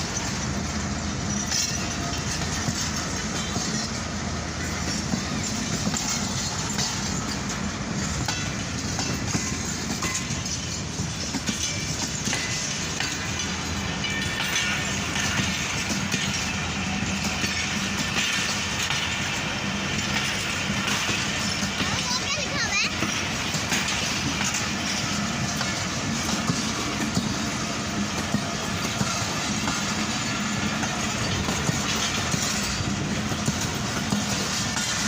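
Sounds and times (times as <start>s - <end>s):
train rumbling along track: 0.0s - 35.0s
wheels clicking over rail joints: 0.0s - 35.0s.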